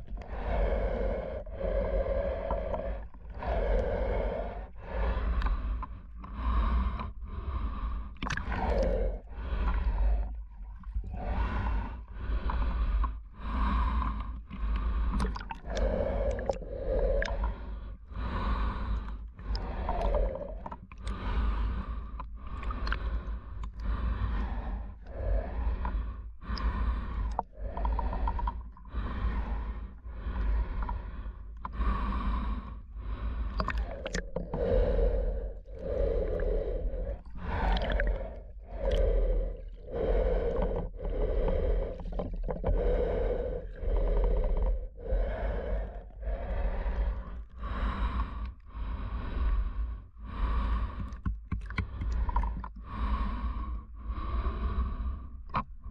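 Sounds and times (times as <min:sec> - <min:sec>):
low rumble of water on microphone: 0:00.0 - 0:55.9
snorkel breathing: 0:00.0 - 0:55.9.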